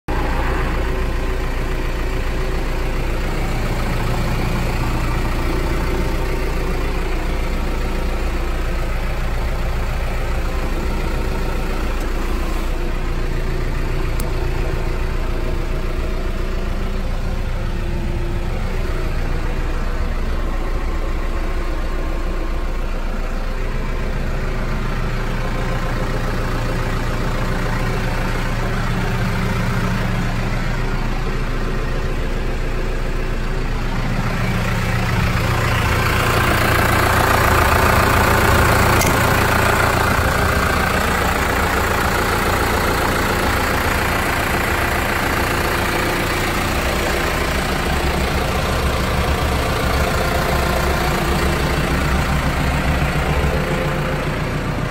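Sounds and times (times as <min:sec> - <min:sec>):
tractor diesel engine idling: 0:00.0 - 0:54.9.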